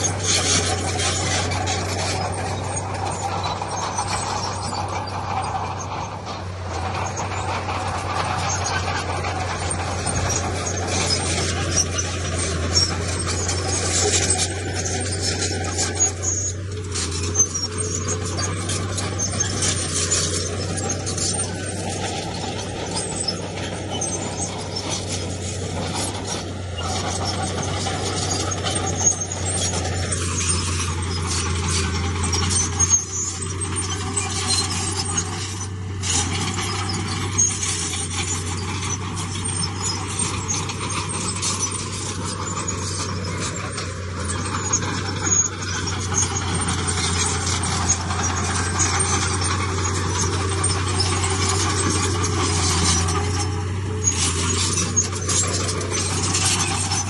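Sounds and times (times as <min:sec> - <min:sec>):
heavy diesel machinery running: 0:00.0 - 0:57.0
metallic clanks and rattles: 0:00.0 - 0:57.0.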